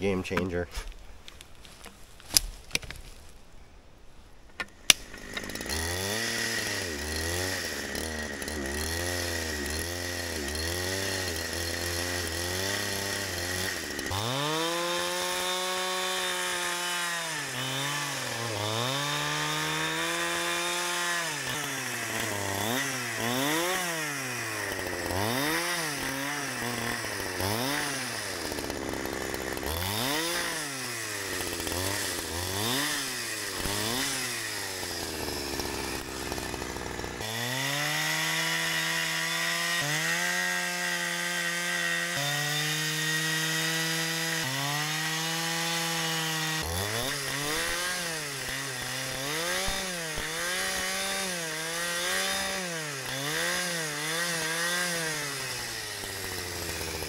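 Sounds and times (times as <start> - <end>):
chainsaw ripping a log: 4.7 - 57.0.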